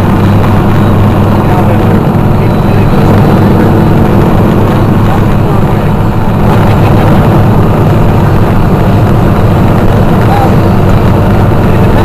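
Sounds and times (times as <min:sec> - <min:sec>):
motorcycles rumbling: 0:00.0 - 0:12.0.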